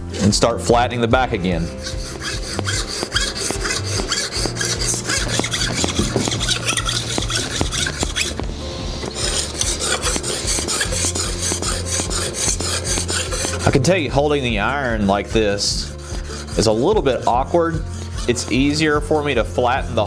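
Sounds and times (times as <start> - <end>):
plane iron rasping on sharpening stone: 0.1 - 20.0.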